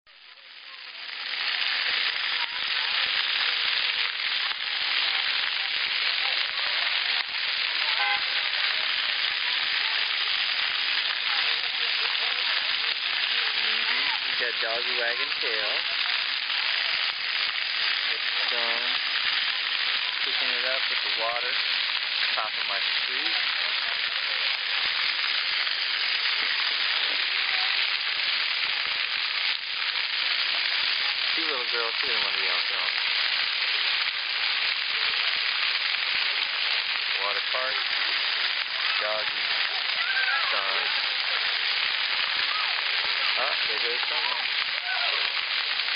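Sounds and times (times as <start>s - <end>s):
fountain jets spraying water: 0.1s - 45.9s.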